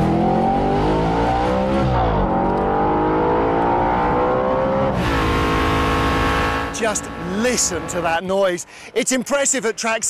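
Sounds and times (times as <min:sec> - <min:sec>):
car engine accelerating hard: 0:00.0 - 0:08.1.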